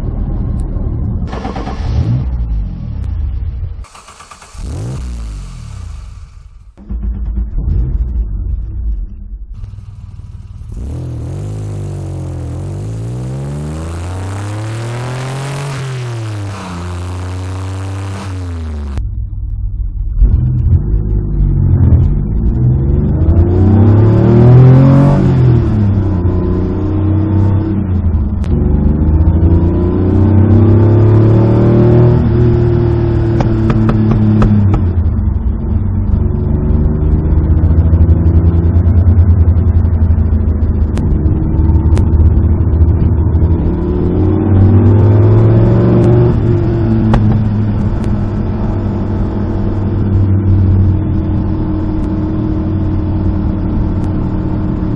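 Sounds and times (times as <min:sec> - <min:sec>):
car engine accelerating through gears: 0:03.8 - 0:08.7, 0:09.6 - 0:19.1, 0:20.1 - 0:54.9.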